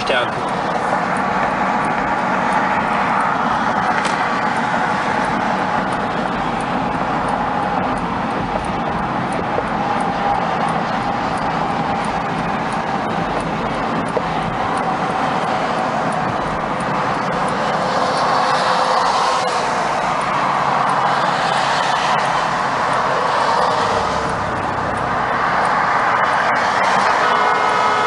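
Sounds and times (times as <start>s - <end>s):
car cabin road and engine noise: 0.0s - 28.0s.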